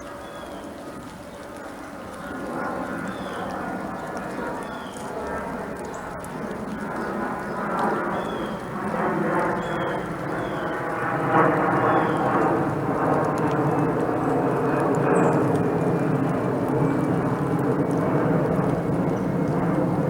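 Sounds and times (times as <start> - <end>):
distant engine drone: 0.0 - 20.0.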